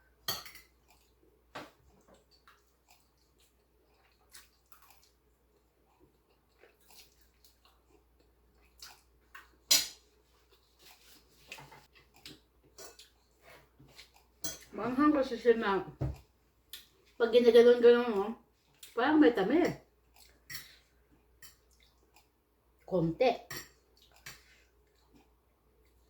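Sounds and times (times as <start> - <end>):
quiet chewing: 0.6 - 14.8, 16.2 - 17.2, 18.5 - 19.0, 19.8 - 22.9, 23.7 - 26.0.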